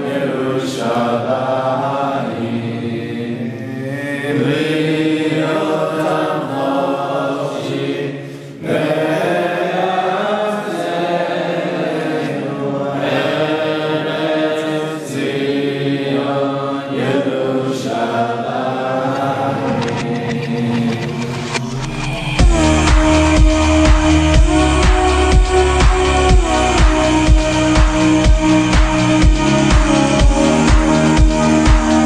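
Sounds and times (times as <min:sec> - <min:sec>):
voices singing chant-like melody: 0:00.0 - 0:32.0.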